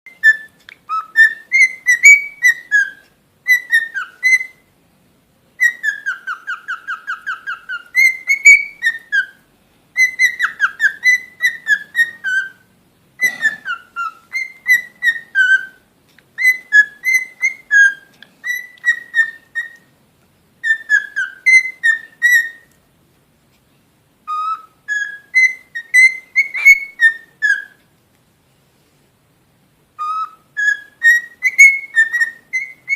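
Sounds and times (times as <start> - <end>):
cockatiel whistling: 0.1 - 4.7, 5.6 - 9.4, 10.0 - 15.8, 16.4 - 19.9, 20.6 - 22.7, 24.2 - 27.8, 30.0 - 32.9.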